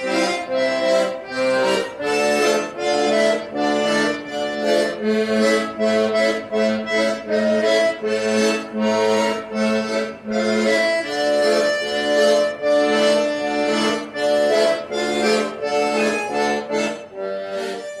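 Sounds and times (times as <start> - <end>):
accordion playing lively tune: 0.0 - 18.0.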